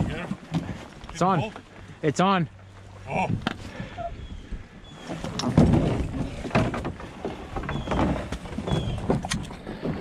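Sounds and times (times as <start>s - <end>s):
canoe hull scraping on dirt: 0.0s - 2.0s, 2.6s - 10.0s.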